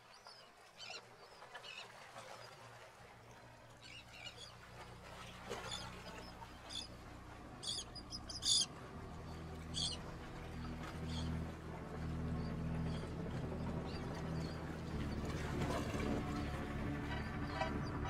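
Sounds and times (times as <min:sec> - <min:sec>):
low steady hum: 0:02.7 - 0:18.0.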